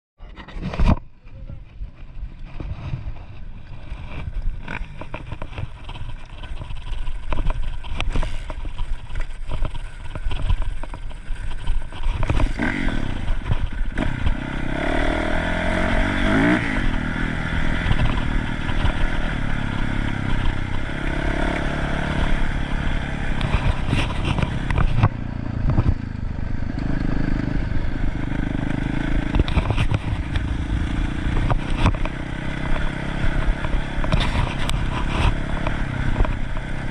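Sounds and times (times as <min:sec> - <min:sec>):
dirt bike engine running: 0:01.8 - 0:36.9.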